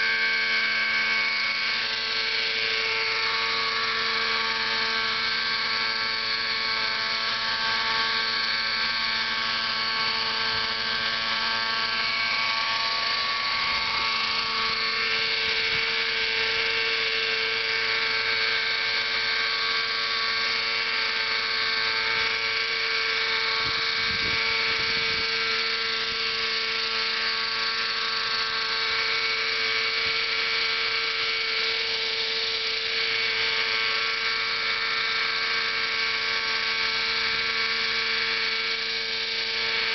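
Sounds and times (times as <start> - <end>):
model helicopter engine buzzing: 0.0 - 39.9.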